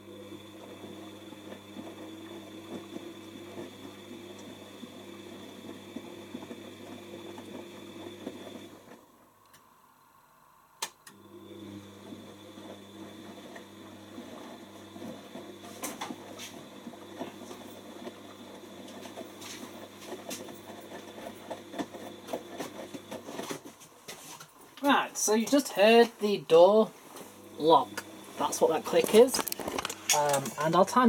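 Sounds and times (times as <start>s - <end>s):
washing machine motor hum: 0.0s - 9.4s, 11.0s - 31.0s.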